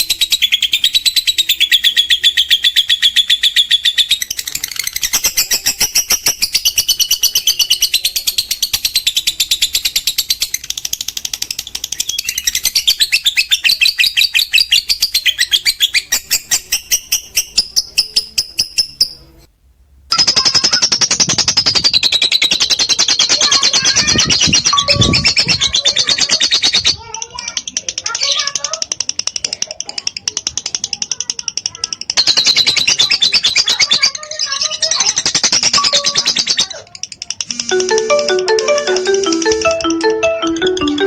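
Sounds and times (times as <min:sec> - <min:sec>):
lovebird chattering: 0:00.0 - 0:19.2, 0:20.1 - 0:39.6.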